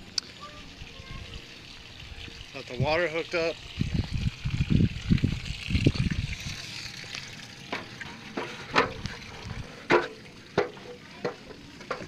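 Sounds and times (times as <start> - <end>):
water spraying from hose: 0.0 - 12.0.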